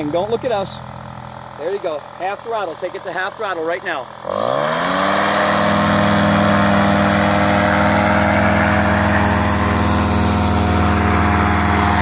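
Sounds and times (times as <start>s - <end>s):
paraglider engine and propeller: 0.0s - 12.0s.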